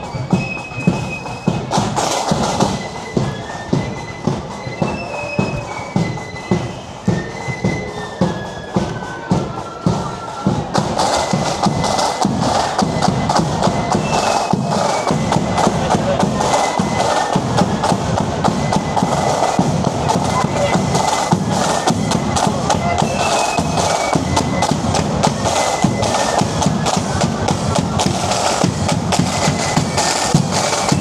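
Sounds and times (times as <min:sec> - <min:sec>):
marching drumbeat: 0:00.0 - 0:31.0
piping melody: 0:00.0 - 0:31.0.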